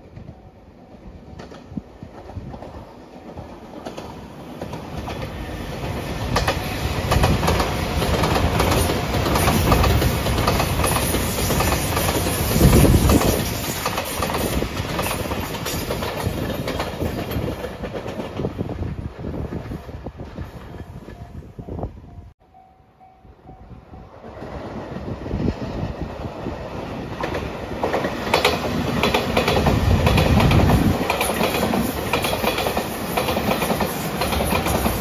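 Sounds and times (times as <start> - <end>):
train wheels on rails: 0.0 - 22.2, 23.5 - 35.0.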